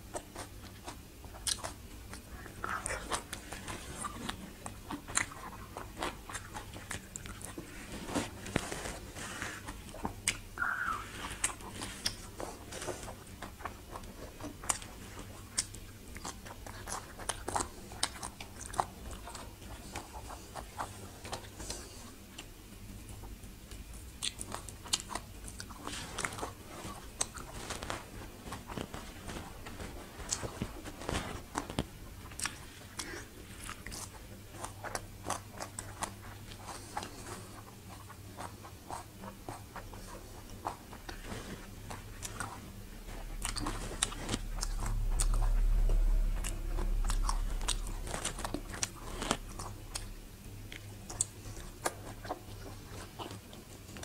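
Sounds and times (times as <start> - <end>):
chewing and crunching lettuce: 0.0 - 54.0.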